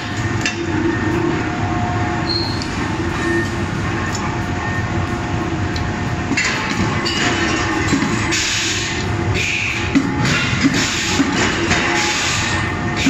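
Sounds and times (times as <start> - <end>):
forge machinery rumble: 0.0 - 13.0.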